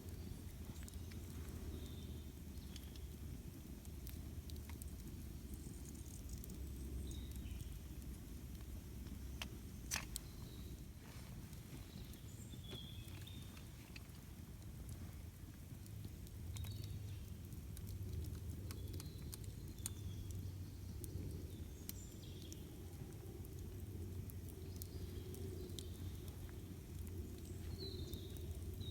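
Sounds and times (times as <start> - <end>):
campfire crackling and popping: 0.0 - 28.9
low steady rumble: 0.0 - 28.9.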